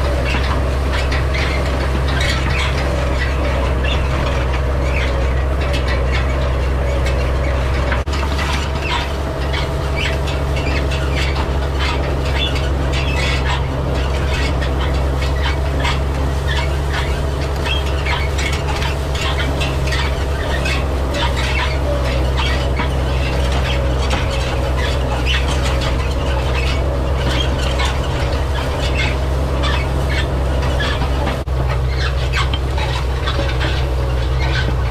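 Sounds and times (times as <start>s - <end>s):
hay rake metal squeaks and rattles: 0.0s - 34.9s
tractor diesel engine drone: 0.0s - 34.9s.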